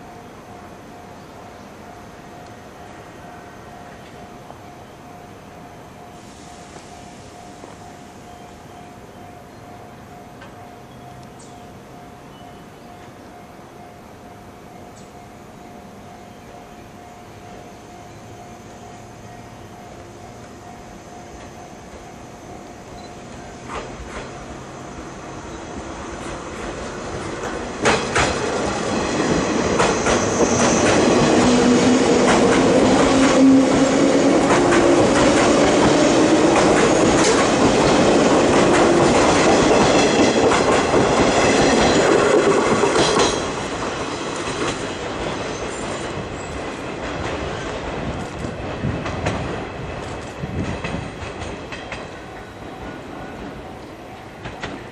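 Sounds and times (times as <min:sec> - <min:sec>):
electric train passing: 0:00.0 - 0:54.9.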